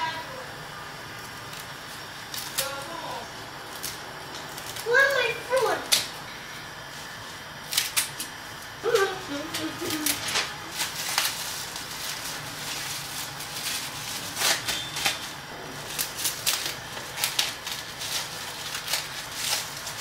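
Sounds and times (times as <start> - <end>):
cling film crinkling: 1.1 - 3.0, 3.6 - 6.2, 7.0 - 20.0.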